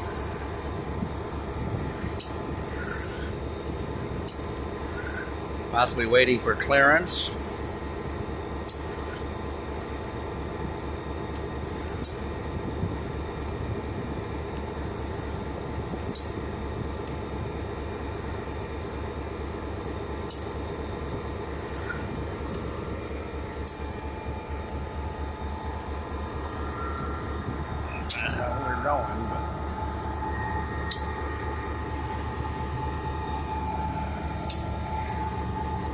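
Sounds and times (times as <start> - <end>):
diesel locomotive engine idling: 0.0 - 35.9.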